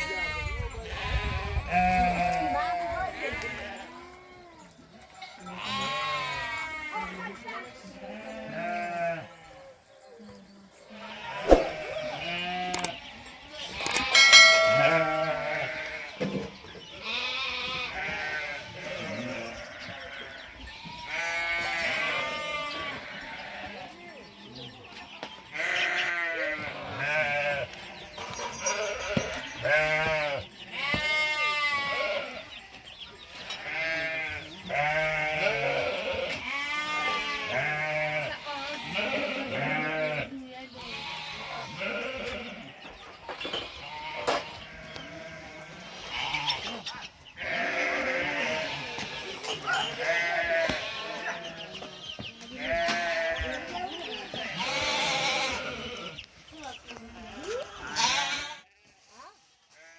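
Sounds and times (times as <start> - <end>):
sheep bleating: 0.0 - 4.2, 5.4 - 7.3, 8.0 - 9.4, 10.9 - 16.2, 17.0 - 24.0, 25.5 - 32.5, 33.5 - 42.8, 43.7 - 46.7, 47.4 - 51.8, 52.5 - 56.3, 57.3 - 58.7.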